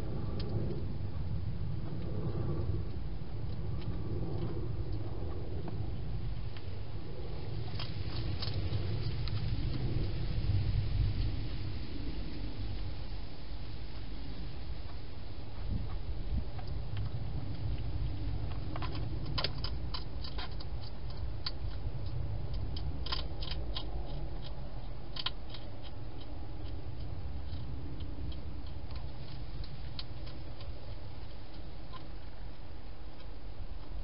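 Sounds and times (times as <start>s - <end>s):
hedgehog crunching dry food: 0.0s - 11.0s, 13.9s - 34.0s
low rumble: 0.0s - 34.0s.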